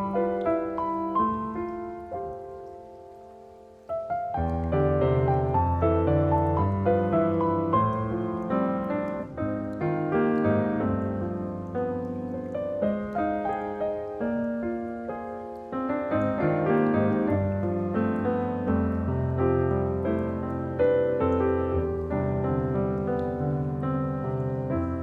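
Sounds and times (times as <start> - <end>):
solo piano melody: 0.0 - 25.0.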